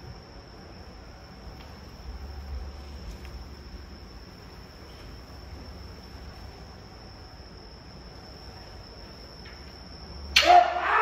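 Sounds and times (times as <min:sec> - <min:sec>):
low room noise rumble: 0:00.0 - 0:11.0.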